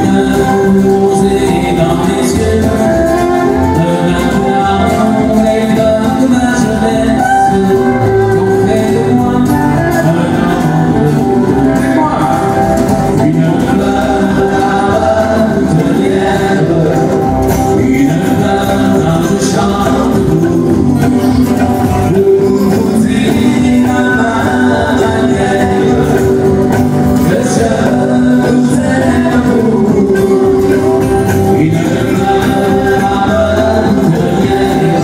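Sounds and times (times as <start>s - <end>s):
men singing: 0.0s - 35.0s
strummed acoustic guitars: 0.0s - 35.0s.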